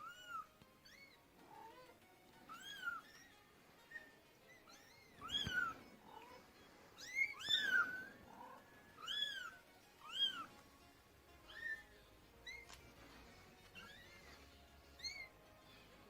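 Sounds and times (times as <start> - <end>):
kittens mewing: 0.0 - 10.6, 11.4 - 15.8.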